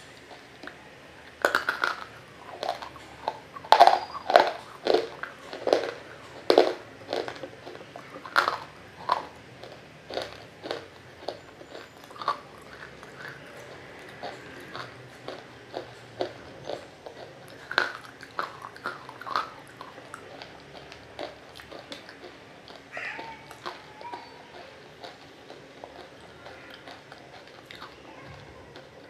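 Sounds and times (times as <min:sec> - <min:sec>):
wet crunchy chewing: 0:00.0 - 0:29.0.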